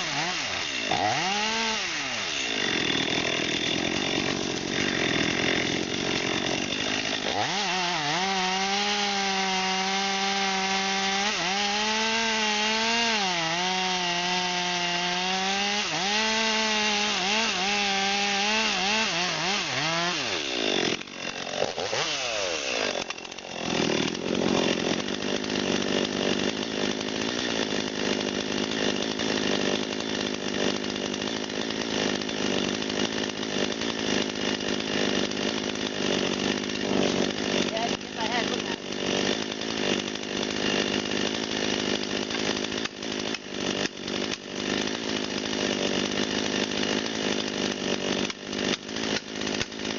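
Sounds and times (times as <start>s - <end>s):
chainsaw cutting wood: 0.0s - 49.9s
rough noisy sawing: 0.0s - 49.9s.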